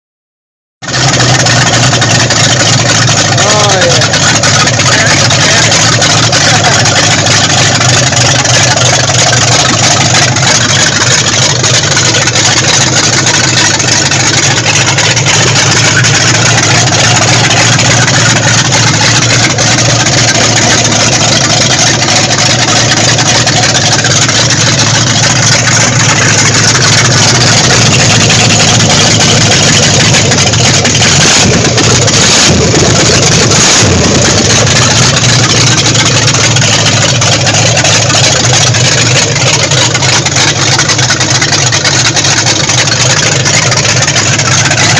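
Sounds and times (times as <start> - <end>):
car engine running: 0.8 - 44.9.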